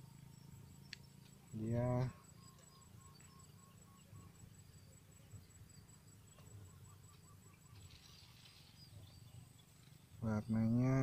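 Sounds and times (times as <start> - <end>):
faint insect chirping: 0.0 - 11.0
low steady hum: 0.0 - 11.0.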